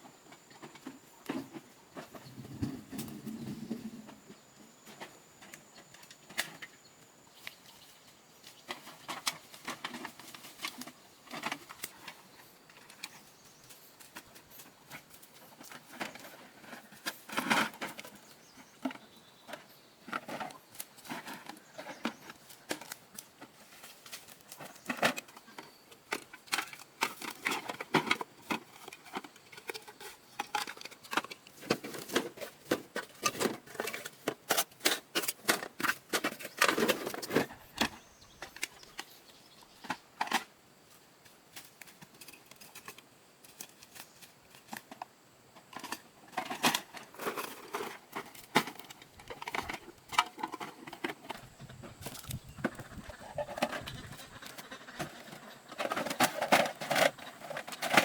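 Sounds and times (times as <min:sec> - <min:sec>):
small objects being handled: 0:08.5 - 0:58.0.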